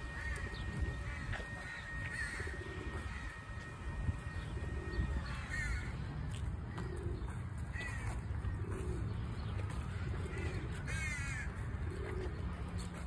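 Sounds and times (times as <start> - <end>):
waterside birds calling: 0.0 - 12.5
steady low rumble: 0.0 - 13.0.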